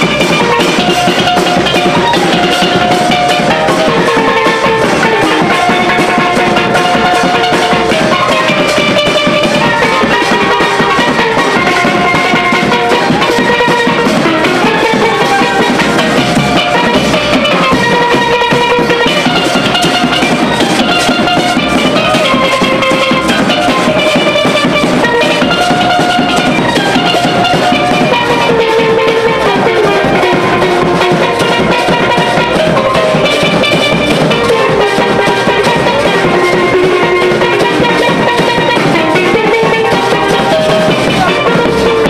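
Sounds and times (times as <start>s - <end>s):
percussion beat: 0.0s - 42.0s
steel pans playing melody: 0.0s - 42.0s.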